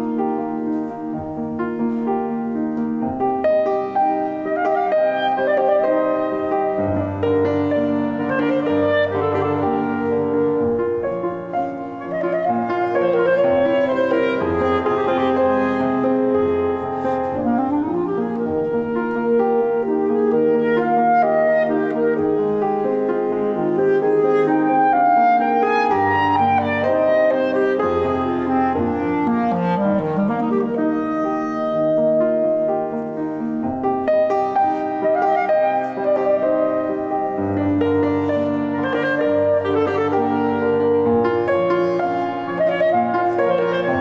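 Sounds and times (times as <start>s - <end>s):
clarinet holding notes: 0.0s - 44.0s
piano accompaniment: 0.0s - 44.0s.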